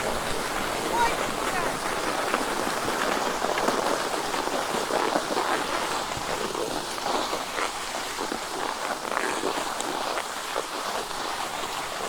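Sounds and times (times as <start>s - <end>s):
skis sliding over packed snow: 0.0s - 12.0s.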